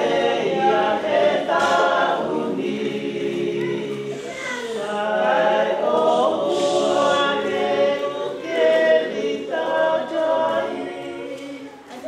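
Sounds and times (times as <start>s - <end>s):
choir singing unaccompanied: 0.0s - 12.0s.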